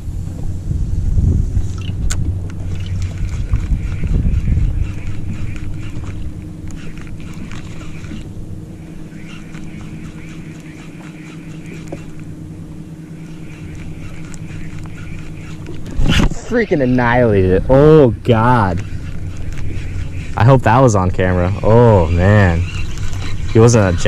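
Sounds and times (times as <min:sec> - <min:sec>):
electric trolling motor humming: 0:00.0 - 0:24.0
wind buffeting microphone: 0:00.0 - 0:24.0
fishing reel whirring: 0:01.6 - 0:24.0.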